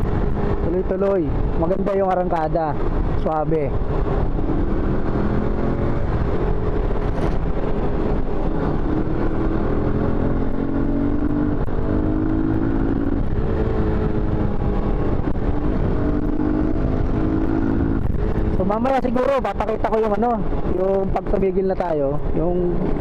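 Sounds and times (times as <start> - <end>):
motorcycle engine accelerating: 0.0 - 1.7, 2.8 - 21.0
road and wind noise: 0.0 - 23.0.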